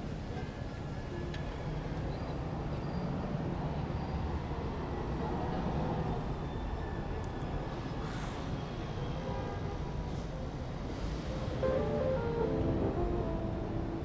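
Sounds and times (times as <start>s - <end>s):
city street noise: 0.0s - 14.0s.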